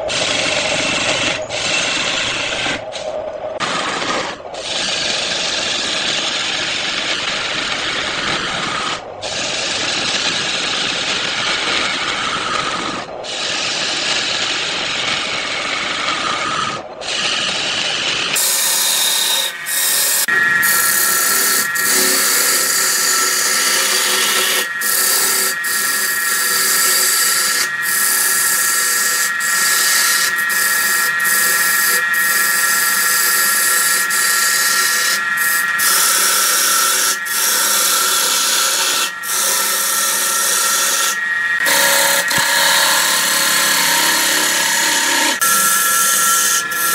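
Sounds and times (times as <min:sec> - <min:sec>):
wood lathe cutting noise: 0:00.0 - 0:03.0, 0:03.6 - 0:46.9.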